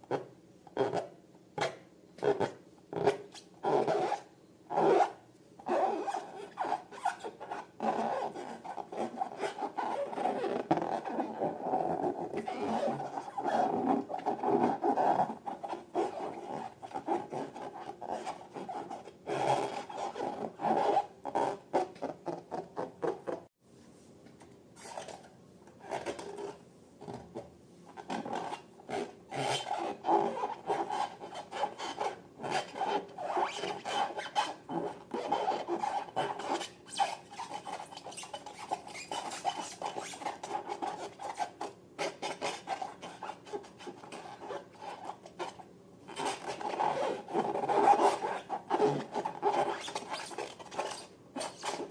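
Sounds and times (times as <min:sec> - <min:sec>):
rubbing and scraping balloons: 0:02.3 - 0:23.5, 0:25.8 - 0:51.9.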